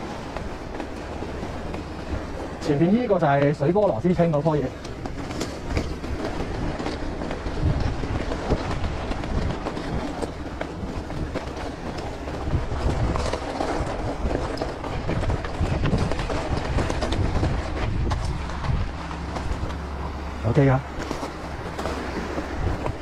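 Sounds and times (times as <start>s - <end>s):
bike rattling: 0.0s - 23.0s
bike tyres crunching over stones: 0.0s - 23.0s
low rumble: 4.1s - 23.0s.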